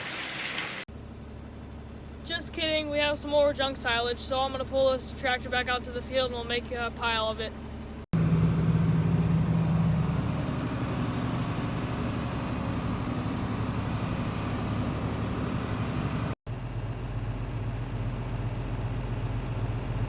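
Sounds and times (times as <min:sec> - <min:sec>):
low engine hum: 0:00.9 - 0:20.0
tractor engine running: 0:00.9 - 0:20.0.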